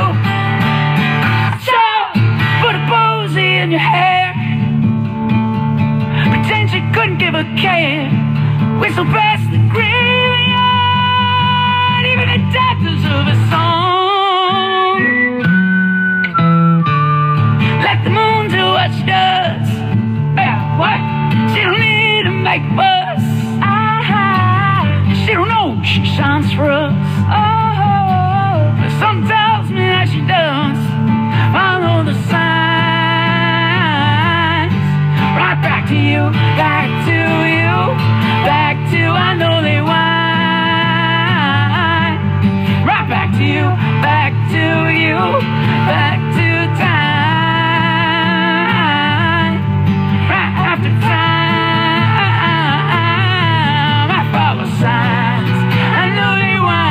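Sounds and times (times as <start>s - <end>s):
man singing: 0.0s - 0.4s, 8.8s - 15.0s, 17.6s - 56.9s
acoustic guitar strumming: 0.0s - 56.9s.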